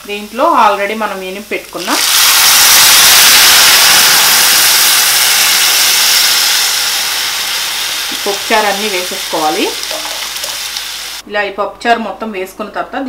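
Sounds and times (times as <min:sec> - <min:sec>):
lentils sizzling in hot oil: 0:00.0 - 0:11.2.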